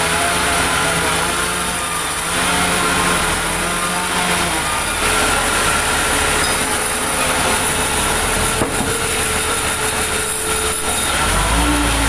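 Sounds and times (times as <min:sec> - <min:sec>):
band saw blade whining: 0:00.0 - 0:12.0.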